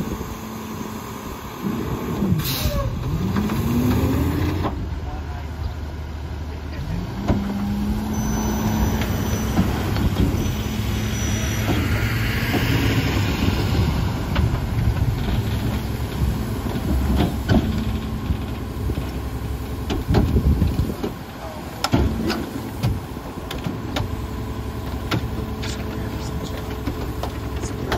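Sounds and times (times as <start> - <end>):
garbage truck engine at raised revs: 0.0 - 27.9.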